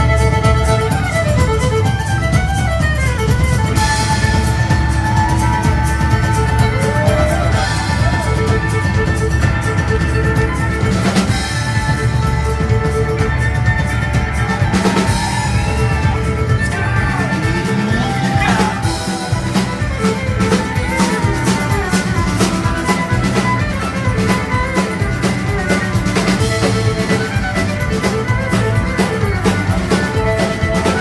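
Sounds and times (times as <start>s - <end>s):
band music with drum beat: 0.0s - 31.0s.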